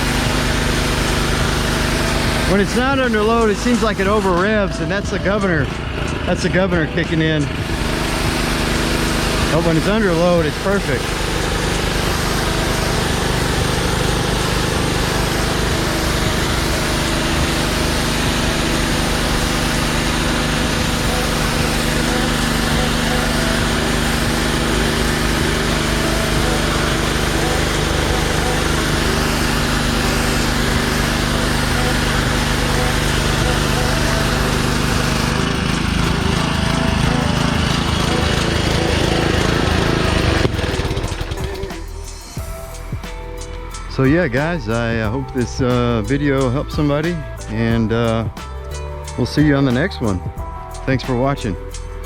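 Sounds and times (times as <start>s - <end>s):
pressure washer engine running: 0.0s - 52.0s.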